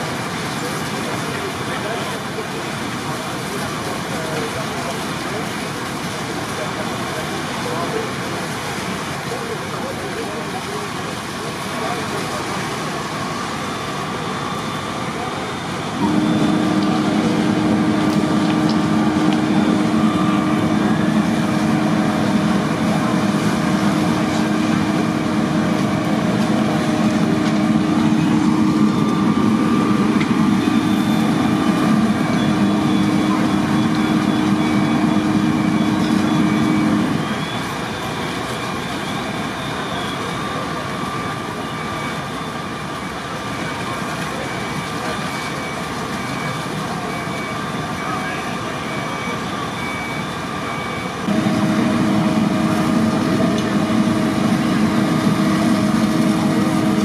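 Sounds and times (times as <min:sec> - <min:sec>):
constant rushing noise: 0:00.0 - 0:57.0
diesel engines droning: 0:00.0 - 0:57.0.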